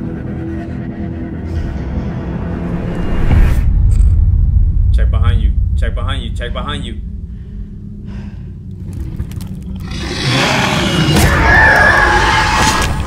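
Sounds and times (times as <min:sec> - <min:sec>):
low rumble: 0:00.0 - 0:10.6
horror film soundtrack: 0:00.0 - 0:13.0.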